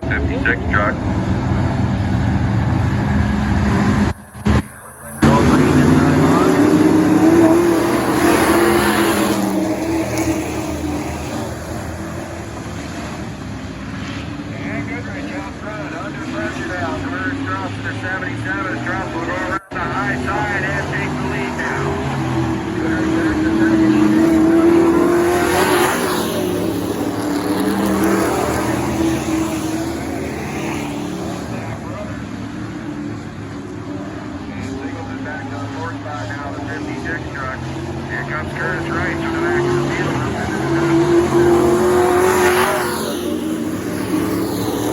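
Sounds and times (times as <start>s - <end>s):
race truck engines at full throttle: 0.0s - 44.9s.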